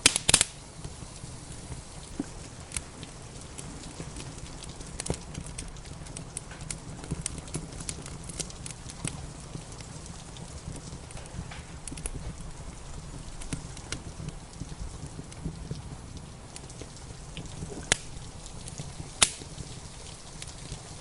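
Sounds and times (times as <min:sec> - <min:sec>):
loud fire pops: 0:00.0 - 0:21.0
wood fire crackling: 0:00.0 - 0:21.0.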